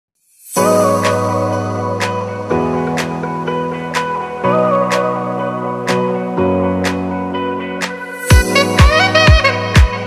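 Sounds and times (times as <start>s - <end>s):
held music chords: 0.6s - 10.0s.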